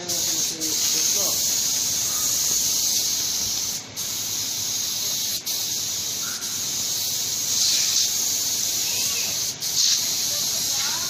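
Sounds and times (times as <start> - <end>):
paint spray gun hissing: 0.0 - 11.0.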